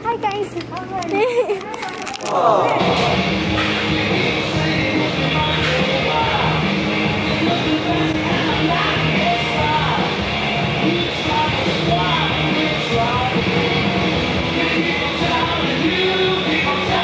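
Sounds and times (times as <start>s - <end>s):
rock song with singing: 2.4s - 17.0s.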